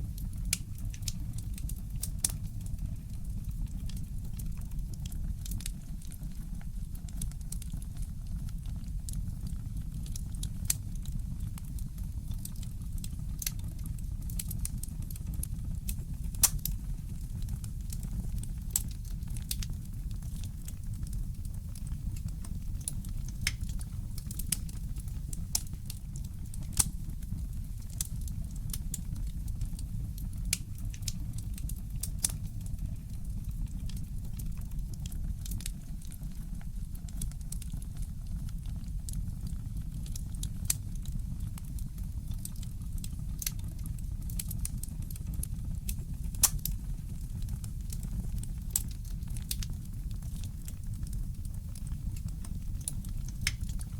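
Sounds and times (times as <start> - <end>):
low fire rumble: 0.0 - 53.9
wood fire crackling and popping: 0.0 - 53.9.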